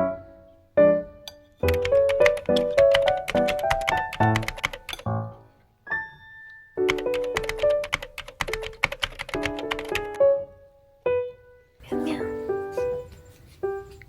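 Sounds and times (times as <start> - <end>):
light instrumental music: 0.0 - 14.0.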